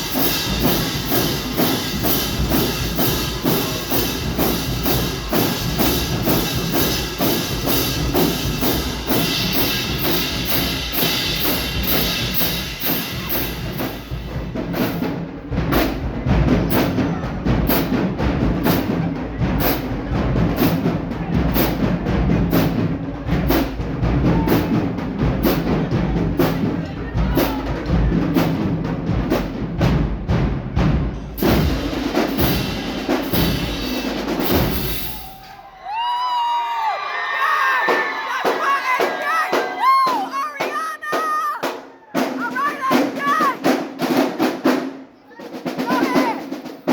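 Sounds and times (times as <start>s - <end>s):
loud drum beat: 0.0s - 46.9s
marching band playing: 0.0s - 46.9s.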